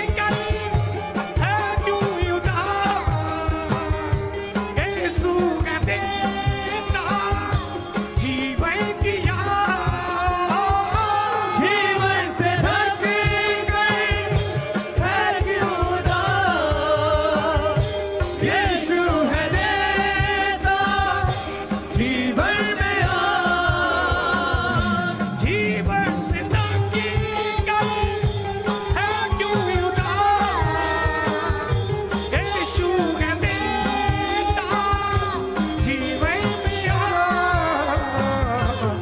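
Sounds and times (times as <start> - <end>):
lead melody: 0.0 - 39.0
steady drum beat: 0.0 - 39.0.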